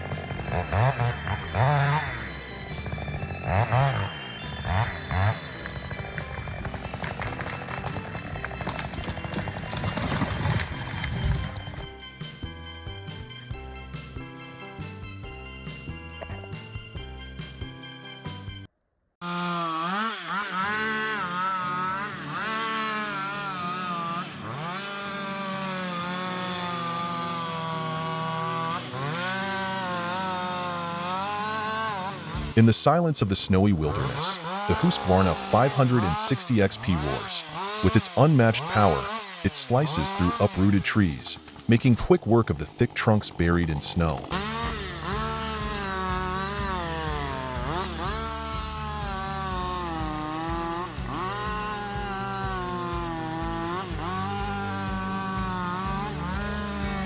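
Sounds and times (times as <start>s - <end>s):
chainsaw revving: 0.0s - 12.4s, 19.2s - 33.0s, 33.6s - 57.0s.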